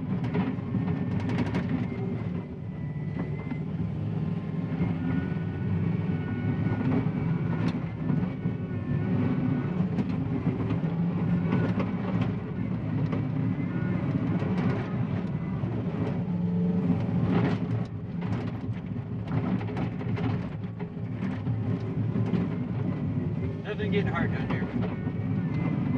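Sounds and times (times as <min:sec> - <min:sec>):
diesel engine under load: 0:00.0 - 0:25.9.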